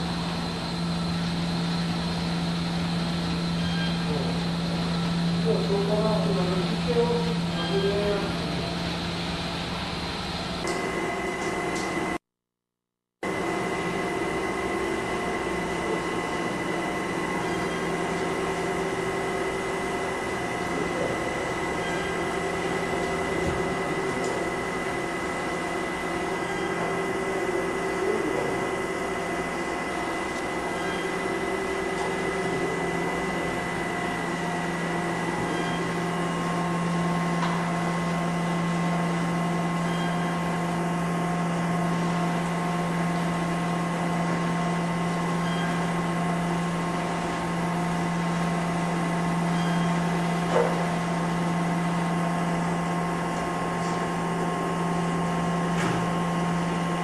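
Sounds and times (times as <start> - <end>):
machine hum with held tones: 0.0 - 12.2, 13.2 - 57.0.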